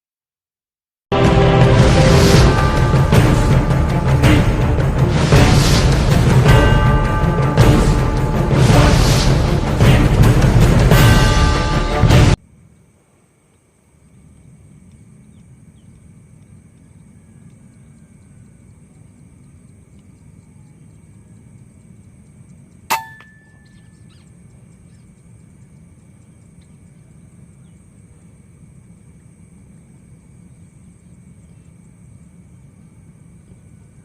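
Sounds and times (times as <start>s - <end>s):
constant high whine: 1.1s - 34.0s
low outdoor rumble: 1.2s - 34.0s.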